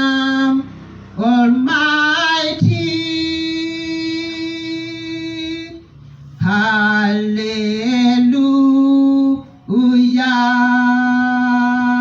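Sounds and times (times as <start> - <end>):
people singing a worship song: 0.0 - 12.0.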